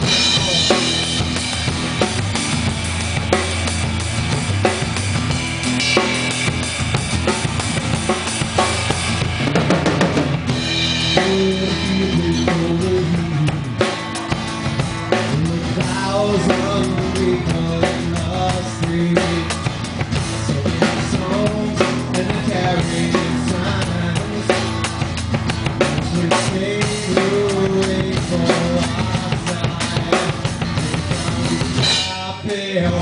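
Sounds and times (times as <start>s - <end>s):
bass and guitar notes: 0.0s - 33.0s
drum kit rock beat: 0.0s - 33.0s.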